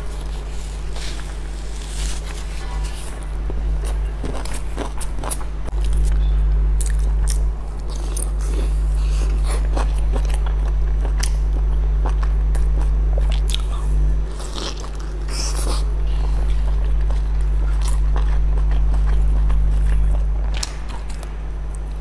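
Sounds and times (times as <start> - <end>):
chewing dumpling: 0.0 - 22.0
steady low hum: 0.0 - 22.0.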